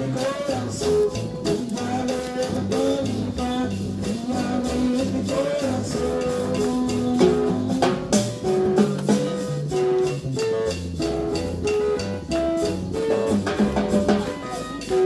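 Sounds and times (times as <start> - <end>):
live worship band music: 0.0 - 15.0.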